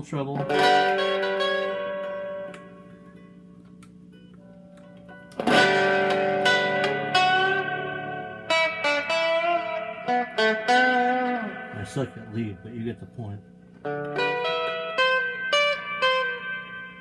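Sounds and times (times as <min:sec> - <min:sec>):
electric guitar through an amp: 0:00.0 - 0:17.0.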